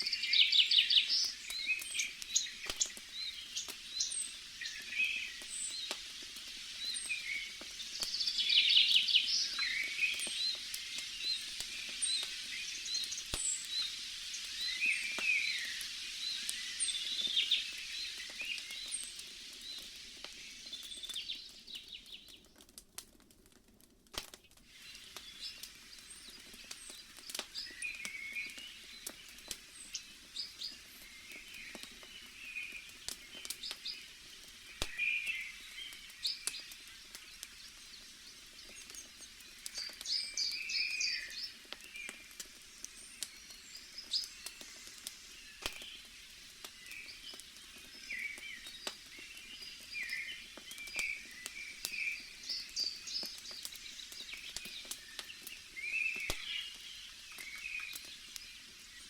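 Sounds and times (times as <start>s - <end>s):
small birds chirping: 0.0s - 22.8s, 24.4s - 59.0s
wood fire crackling and popping: 0.0s - 59.0s.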